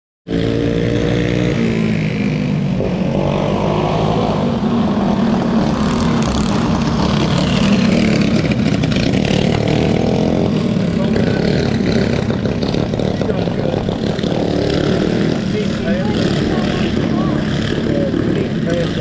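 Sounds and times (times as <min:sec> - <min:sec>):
go-kart engines racing: 0:00.3 - 0:19.0.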